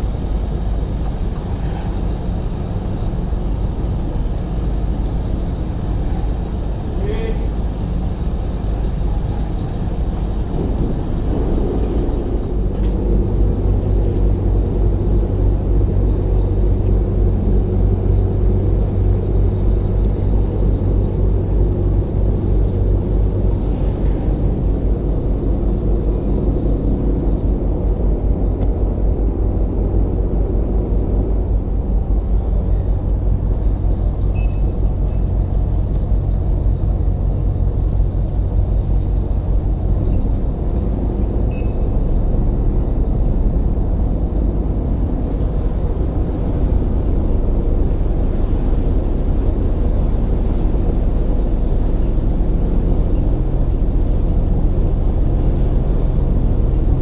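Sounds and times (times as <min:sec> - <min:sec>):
ferry diesel engines droning: 0:00.0 - 0:57.0.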